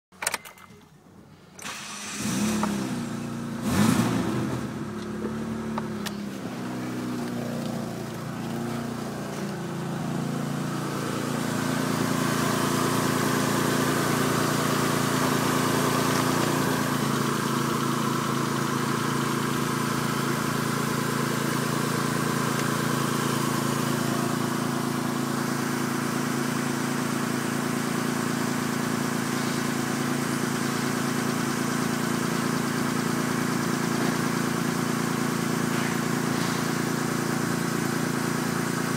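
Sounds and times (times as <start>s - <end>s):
car engine starting and idling: 0.2s - 38.9s.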